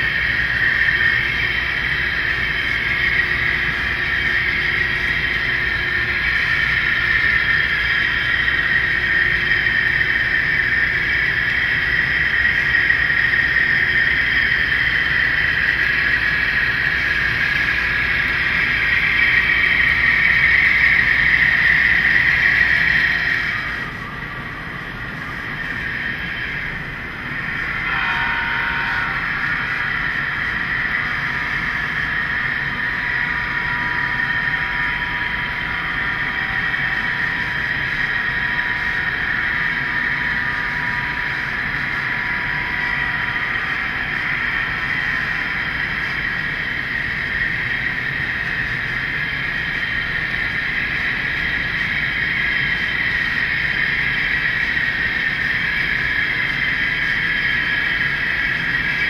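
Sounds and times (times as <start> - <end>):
model train whirring: 0.0 - 59.0.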